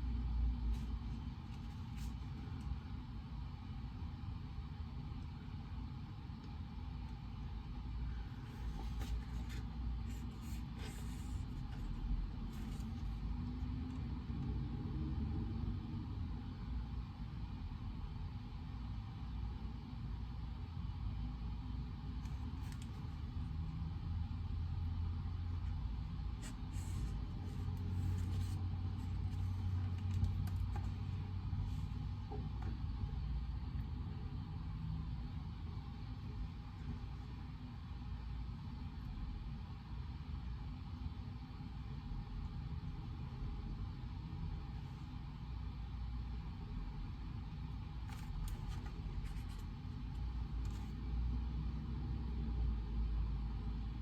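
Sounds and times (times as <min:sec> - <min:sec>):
low room rumble: 0:00.0 - 0:54.0
steady low hum: 0:00.0 - 0:54.0.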